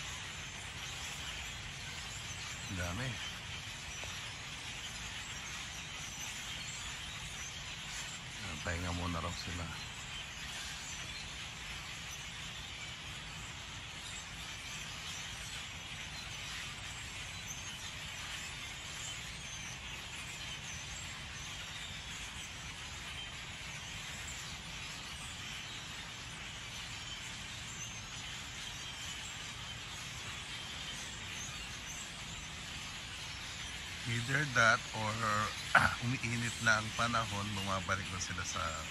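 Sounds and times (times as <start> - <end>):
flock of birds chattering: 0.0 - 38.9.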